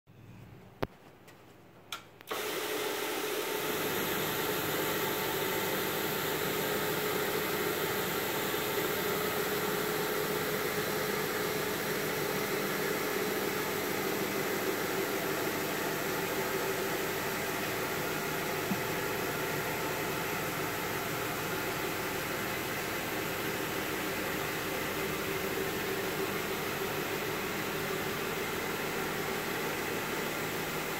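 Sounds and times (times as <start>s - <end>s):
carpet machine motor whirring: 2.3s - 28.9s.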